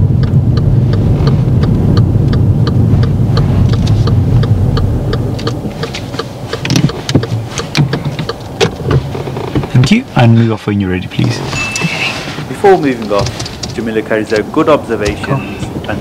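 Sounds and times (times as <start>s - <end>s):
car engine idling rumble: 0.0s - 16.0s
turn signal ticking: 0.0s - 16.0s.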